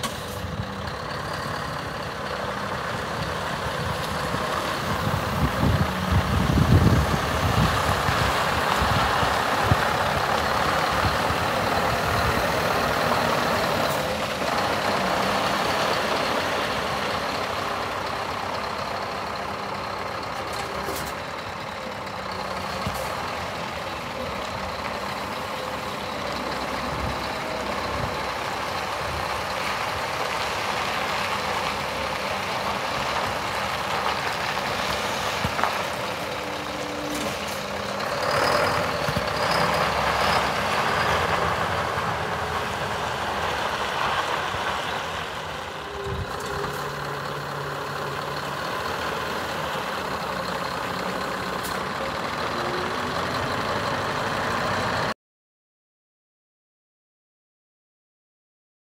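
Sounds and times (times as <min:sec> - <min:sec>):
diesel truck engine running: 0:00.0 - 0:55.2.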